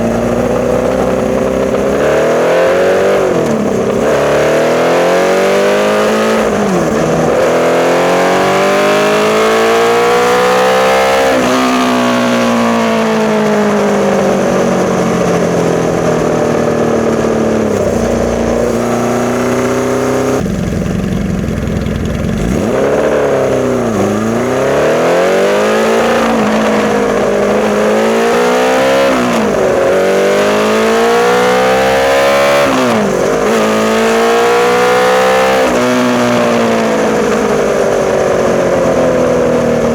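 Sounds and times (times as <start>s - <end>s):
motorcycle engine idling: 0.0s - 11.0s, 11.8s - 32.0s, 36.0s - 39.9s
motorcycle engine revving through gears: 0.0s - 39.9s.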